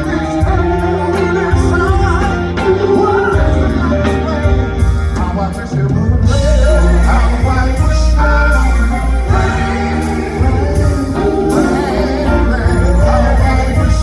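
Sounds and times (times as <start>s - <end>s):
bass line: 0.0s - 14.0s
group singing slow ballad: 0.0s - 14.0s.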